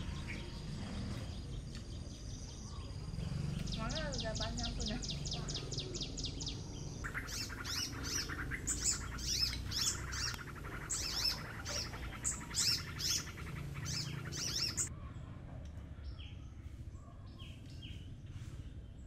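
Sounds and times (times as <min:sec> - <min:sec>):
birds chirping: 0:00.0 - 0:15.2, 0:16.0 - 0:19.0.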